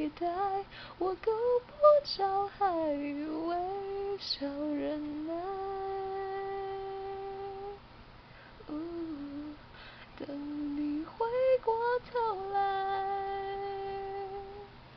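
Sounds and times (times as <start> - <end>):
person singing wordless melody: 0.0 - 7.8, 8.6 - 9.6, 10.2 - 14.7.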